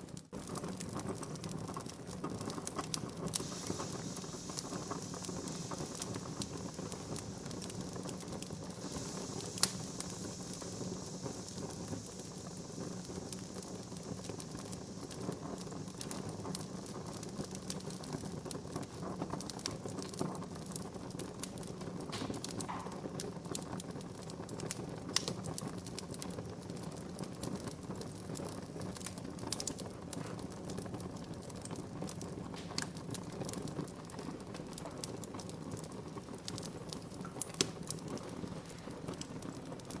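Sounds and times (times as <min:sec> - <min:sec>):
crackles and pops of burning wood: 0:00.0 - 0:40.0
fire rumbling in fireplace: 0:00.0 - 0:40.0.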